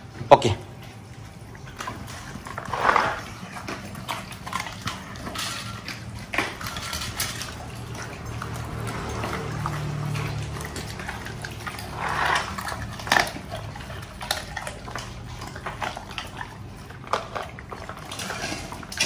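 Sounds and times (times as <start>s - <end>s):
dogs chewing and gulping: 0.0s - 19.0s.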